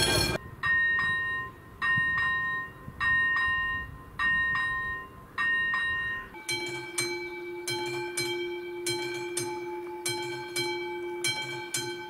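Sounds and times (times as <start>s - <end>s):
level-crossing warning bell: 0.0s - 12.0s.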